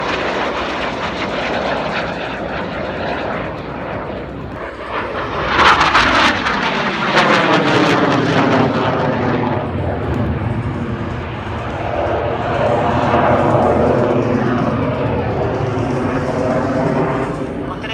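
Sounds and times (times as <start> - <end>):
jet passing in flight: 0.0 - 17.9.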